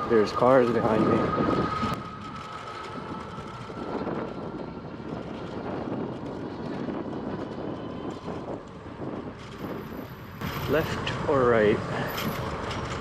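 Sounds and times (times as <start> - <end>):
road noise: 0.0 - 13.0
rushing wind: 0.0 - 13.0.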